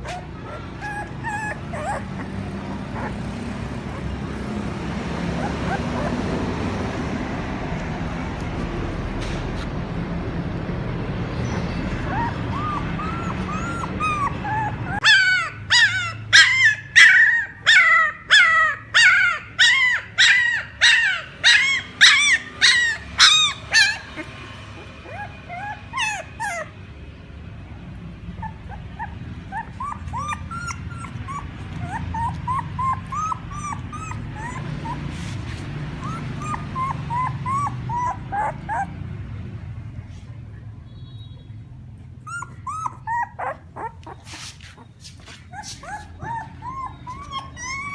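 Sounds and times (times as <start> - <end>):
loud high puppy cry: 0.0 - 7.0, 11.5 - 39.2, 41.9 - 47.9
puppies whimpering: 0.0 - 7.0, 11.4 - 39.3, 42.0 - 47.9.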